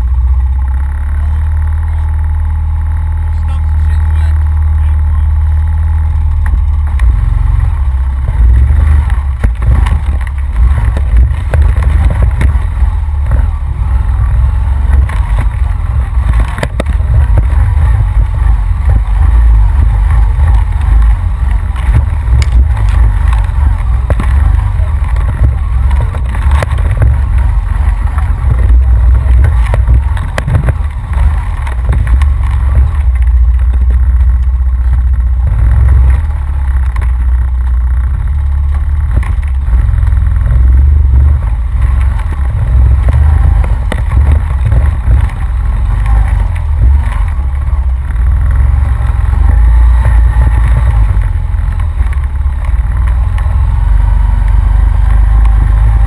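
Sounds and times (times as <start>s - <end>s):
atv engine rumble: 0.0s - 56.0s.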